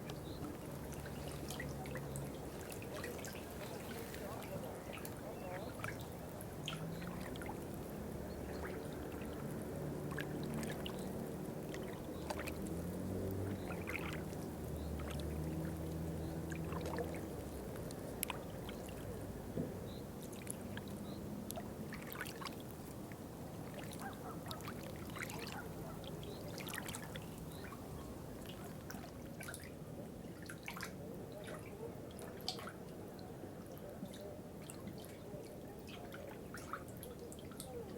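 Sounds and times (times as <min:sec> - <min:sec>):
water dripping and trickling: 0:00.0 - 0:37.9.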